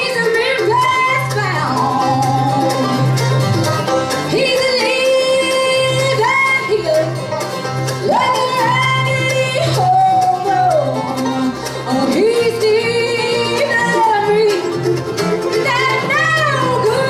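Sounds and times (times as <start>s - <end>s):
woman singing: 0.0s - 3.0s, 4.3s - 7.2s, 8.0s - 14.8s, 15.6s - 17.0s
acoustic guitar: 0.0s - 17.0s
banjo picking: 0.0s - 17.0s
electric bass: 0.0s - 17.0s
mandolin: 0.0s - 17.0s.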